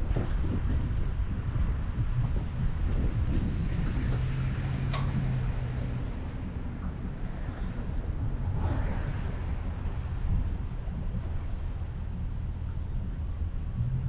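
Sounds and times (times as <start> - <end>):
car engine rumbling at low speed: 0.0 - 14.0
low hum: 0.0 - 14.0.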